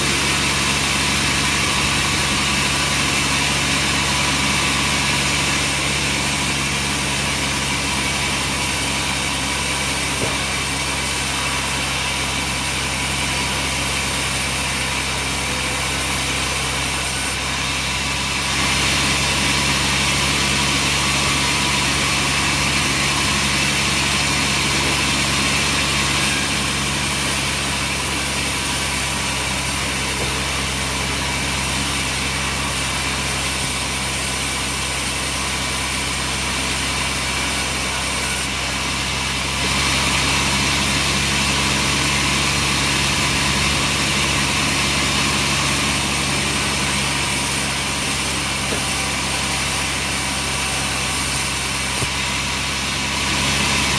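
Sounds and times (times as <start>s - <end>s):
sawmill machinery hum and hiss: 0.0s - 53.9s.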